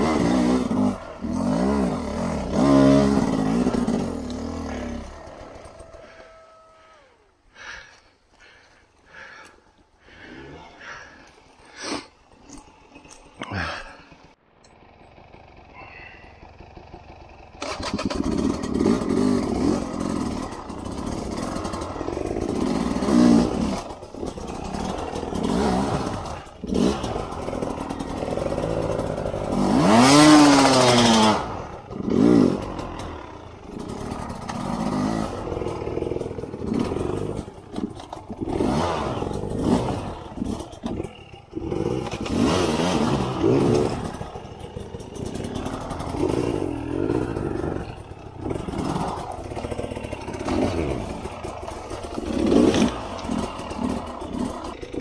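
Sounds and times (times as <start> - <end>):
two-stroke motorcycle engine revving: 0.0 - 7.0, 14.7 - 55.0.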